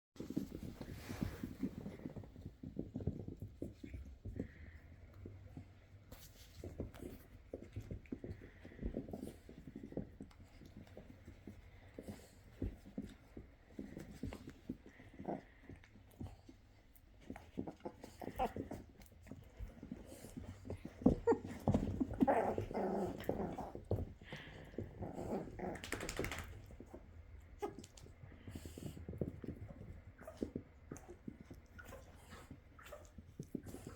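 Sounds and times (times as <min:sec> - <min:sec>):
puppies scuffling and thumping: 0:00.2 - 0:33.9.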